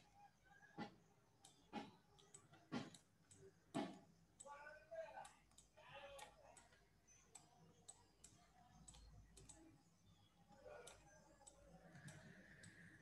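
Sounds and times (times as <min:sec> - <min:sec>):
faint irregular clicks: 0:00.7 - 0:13.0.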